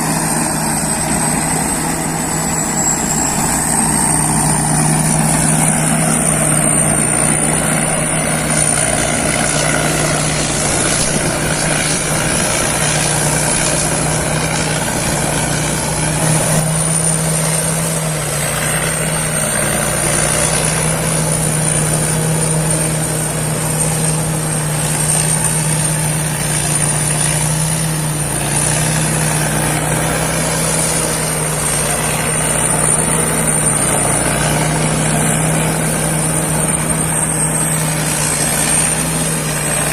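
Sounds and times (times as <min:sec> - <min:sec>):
combine harvester engine drone: 0:00.0 - 0:39.9
thin high whine: 0:00.0 - 0:39.9.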